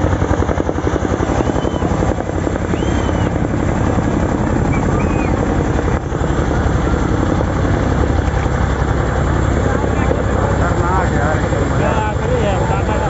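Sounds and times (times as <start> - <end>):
helicopter rotors chopping: 0.0 - 13.0.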